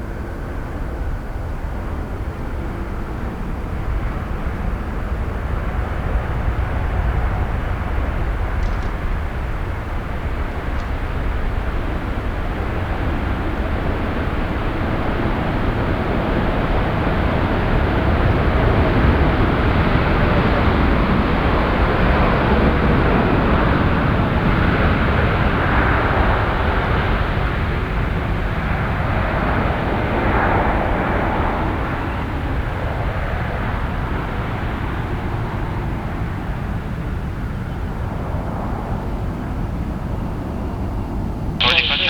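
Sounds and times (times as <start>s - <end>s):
jet engine roar: 0.0s - 42.0s.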